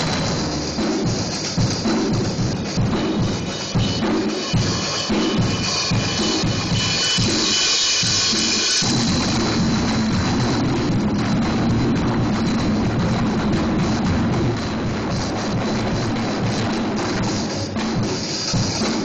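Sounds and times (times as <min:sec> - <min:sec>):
cymbals hissing: 0:00.0 - 0:19.0
drum kits playing: 0:00.0 - 0:19.0.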